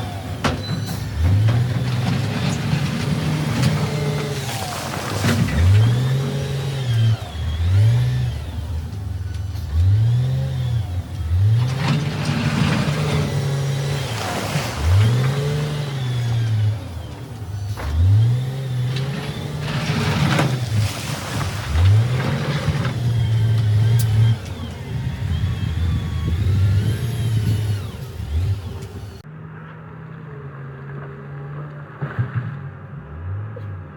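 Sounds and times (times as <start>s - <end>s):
heavy diesel engine revving: 0.0s - 29.3s.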